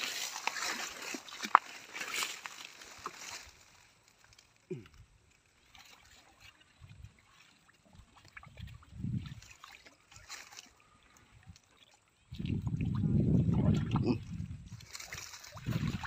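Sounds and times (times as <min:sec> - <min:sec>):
water sloshing and splashing: 0:00.0 - 0:04.6, 0:05.2 - 0:16.0.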